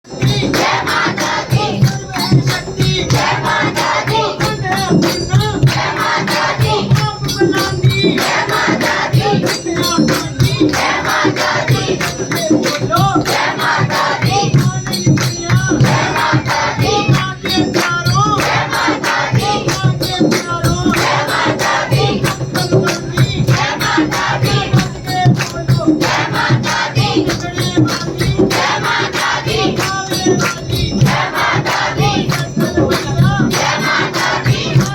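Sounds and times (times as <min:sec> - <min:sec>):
percussion beat: 0:00.0 - 0:34.9
group singing devotional song: 0:00.1 - 0:34.9.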